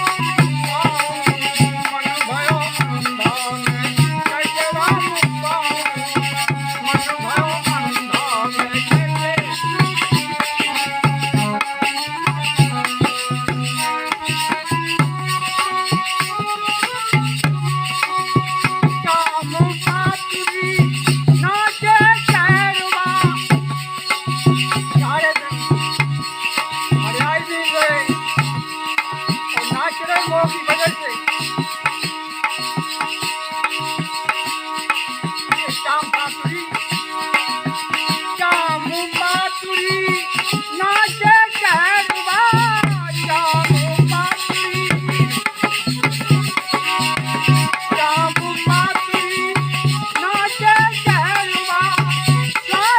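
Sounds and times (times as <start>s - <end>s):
fast hand-drum beats: 0.0s - 52.9s.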